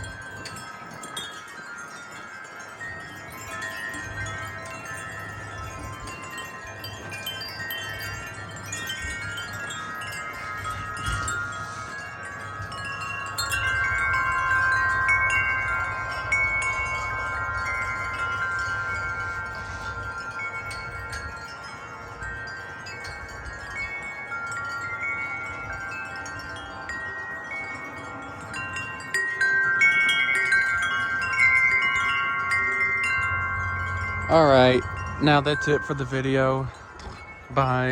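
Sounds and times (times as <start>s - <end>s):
low wind rumble: 0.0s - 37.9s
wind chimes ringing: 0.0s - 37.9s.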